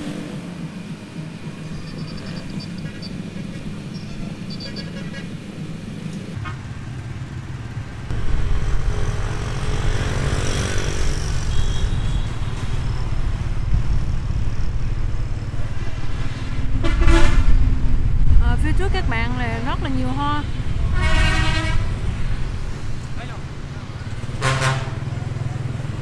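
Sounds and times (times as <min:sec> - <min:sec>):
motorbike and car traffic: 0:00.0 - 0:26.0
vehicle passing close: 0:00.0 - 0:26.0.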